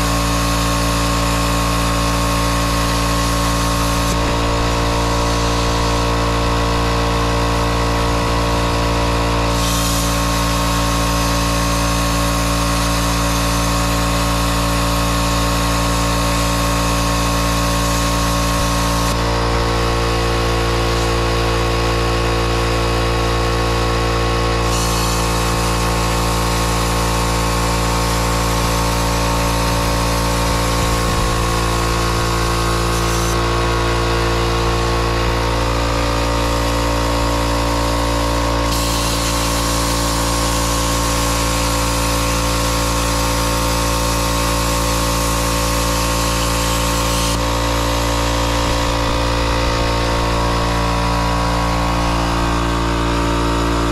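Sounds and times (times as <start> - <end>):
plasma cutter hiss and hum: 0.0 - 53.9.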